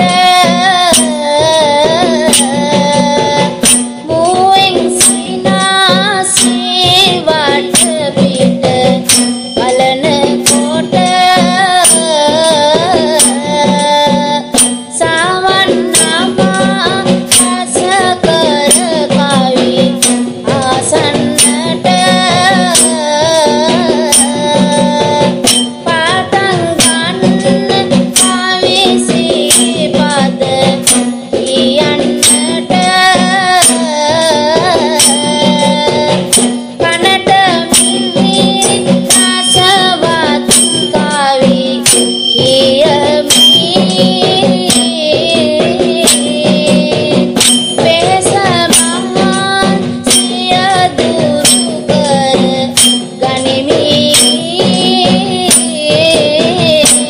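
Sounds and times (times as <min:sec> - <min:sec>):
person singing folk poem: 0:00.0 - 0:57.0
rattling hand percussion: 0:00.0 - 0:57.0.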